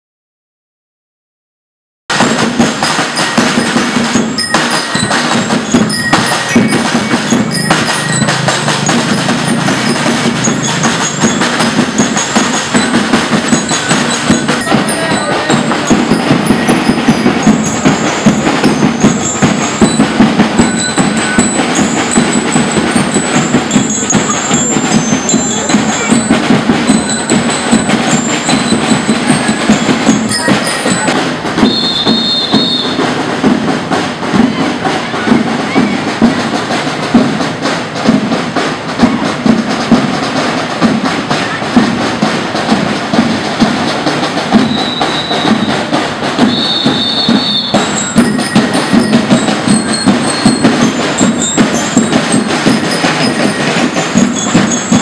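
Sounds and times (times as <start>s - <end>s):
mallet-struck bells: 2.1s - 33.8s, 39.3s - 55.0s
busy drumming: 2.1s - 55.0s
marching band playing: 2.1s - 55.0s.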